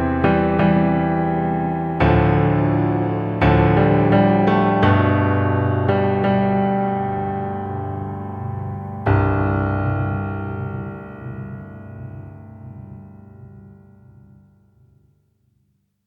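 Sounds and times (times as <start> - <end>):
keyboard chords: 0.0 - 13.5.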